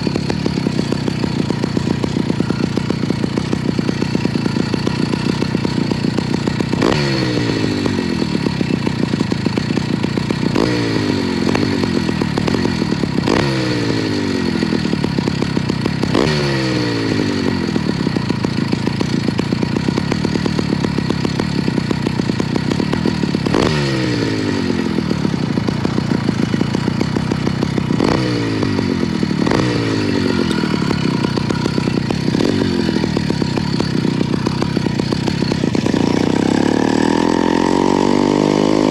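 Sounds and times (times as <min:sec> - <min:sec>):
motorized bicycle engine running: 0:00.0 - 0:38.9.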